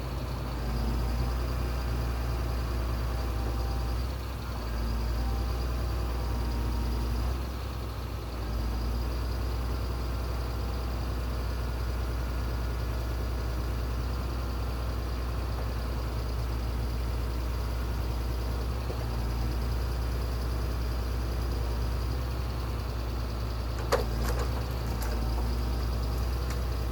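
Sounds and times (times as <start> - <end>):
heavy engine droning: 0.0 - 26.9.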